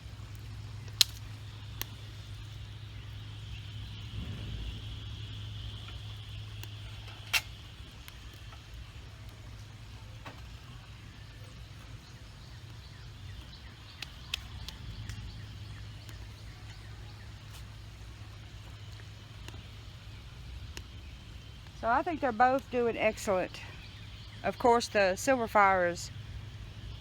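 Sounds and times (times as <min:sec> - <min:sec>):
fire crackling and popping: 0:00.0 - 0:27.0
stove fire rumbling: 0:00.0 - 0:27.0.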